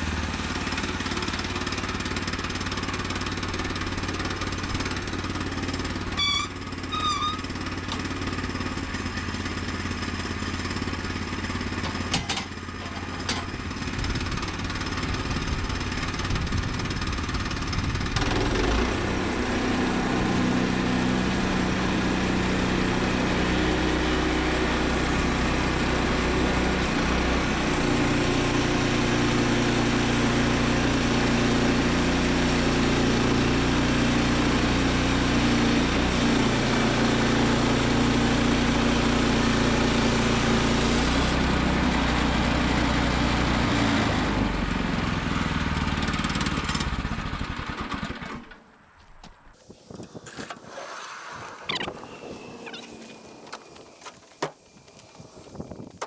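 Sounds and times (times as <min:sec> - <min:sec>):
small gasoline engine running: 0:00.0 - 0:48.6, 0:49.6 - 0:56.0.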